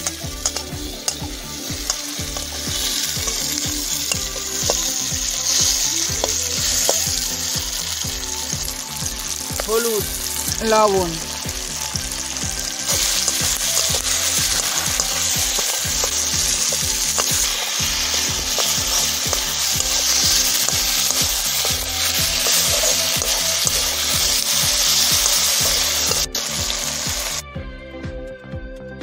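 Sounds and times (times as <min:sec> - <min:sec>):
vegetables sizzling in hot oil: 0:00.0 - 0:27.4.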